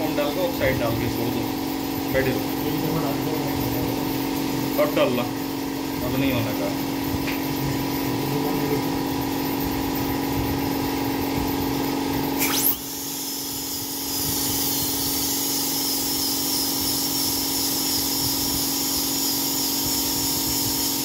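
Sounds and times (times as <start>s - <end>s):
dental drill whine: 0.0s - 21.0s
dental machinery hum: 0.0s - 21.0s.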